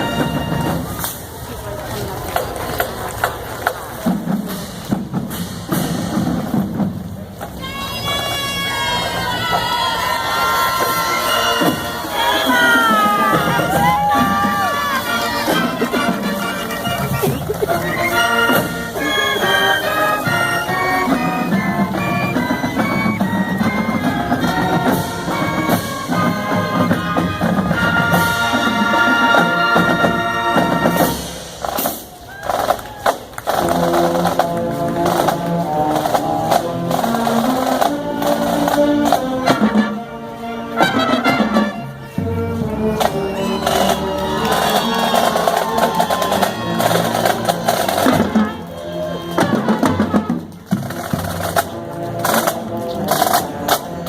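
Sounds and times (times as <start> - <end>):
drums: 0.0 - 54.0
marching band playing: 0.0 - 54.0.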